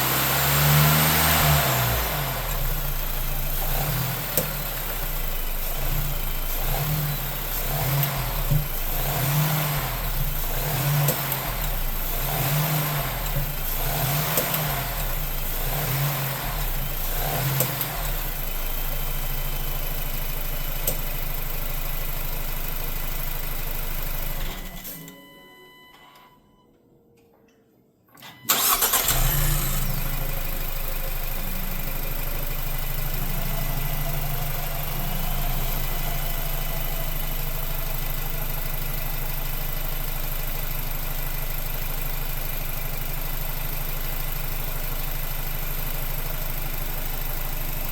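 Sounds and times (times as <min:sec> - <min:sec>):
car engine running: 0:00.0 - 0:24.7, 0:28.5 - 0:47.9
engine rattling and popping: 0:01.0 - 0:24.7, 0:28.5 - 0:47.9.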